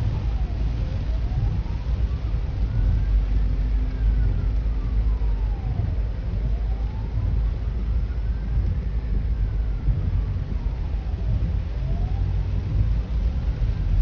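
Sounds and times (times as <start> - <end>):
faint ambulance siren wailing: 0.0 - 14.0
road and rain rumble inside car: 0.0 - 14.0.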